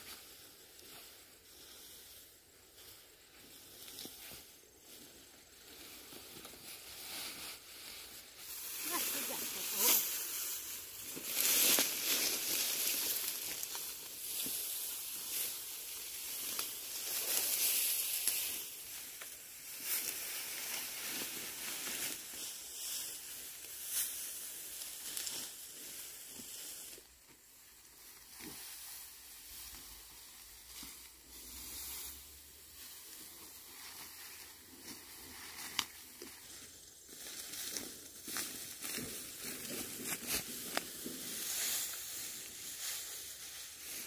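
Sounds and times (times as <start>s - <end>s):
dry plants rustling and crackling: 0.0s - 44.0s.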